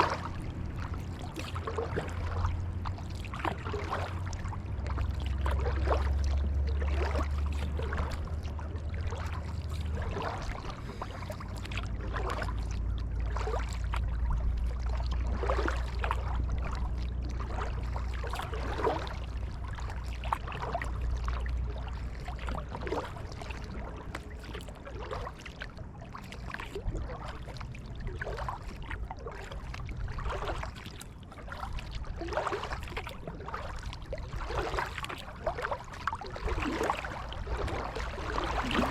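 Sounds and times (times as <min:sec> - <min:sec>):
low steady rumble: 0:00.0 - 0:38.9
paddle splashing in water: 0:00.0 - 0:38.9.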